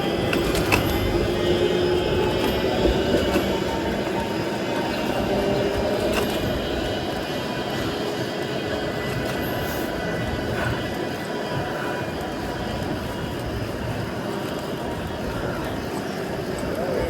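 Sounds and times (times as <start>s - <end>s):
city traffic: 0.0s - 17.0s.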